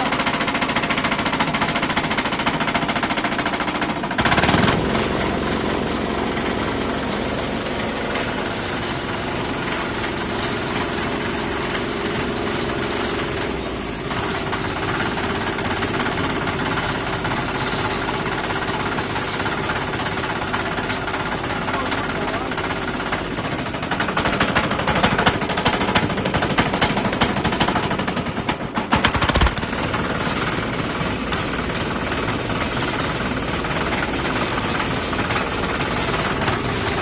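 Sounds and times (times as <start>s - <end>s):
concrete mixer engine knocking: 0.0s - 37.0s.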